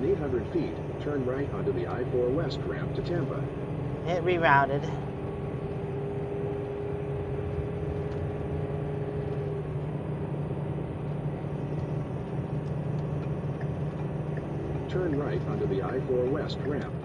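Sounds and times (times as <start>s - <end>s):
motorhome engine and road rumble: 0.0s - 17.0s.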